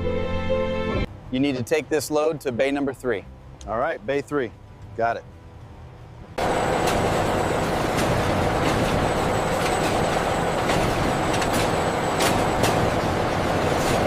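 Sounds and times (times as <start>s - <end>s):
heavy vehicle engine rumble: 1.0s - 14.0s.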